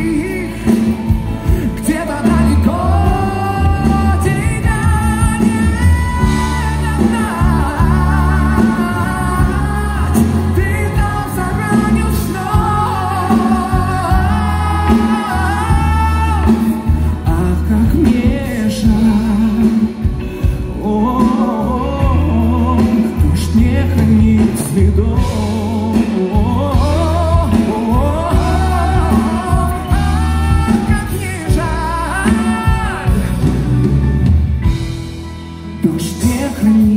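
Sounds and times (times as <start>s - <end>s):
live pop ballad with male singer: 0.0s - 36.9s.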